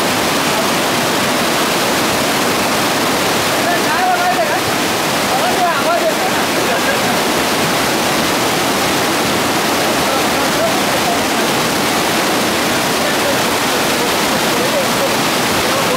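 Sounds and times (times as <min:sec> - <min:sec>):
stream rushing over boulders: 0:00.0 - 0:15.9.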